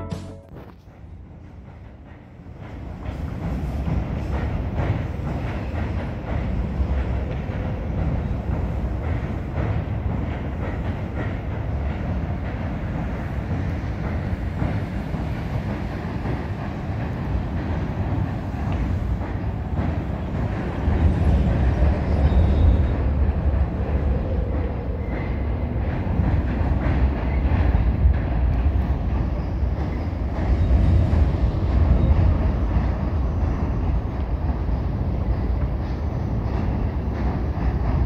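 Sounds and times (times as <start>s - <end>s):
train rumbling over steel bridge: 0.0s - 38.0s.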